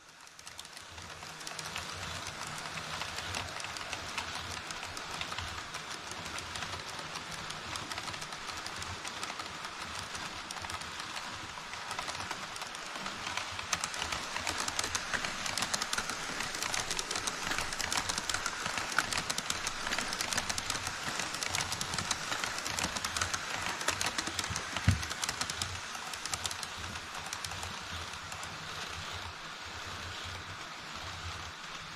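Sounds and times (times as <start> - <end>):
model train wheels clicking on track: 0.0 - 31.9.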